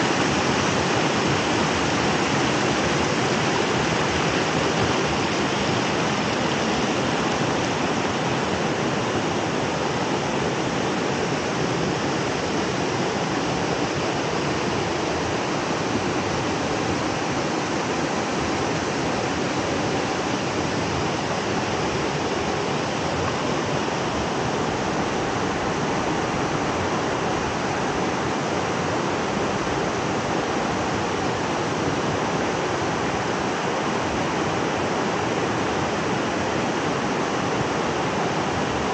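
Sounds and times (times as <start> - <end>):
creek water rushing over rocks: 0.0 - 38.9.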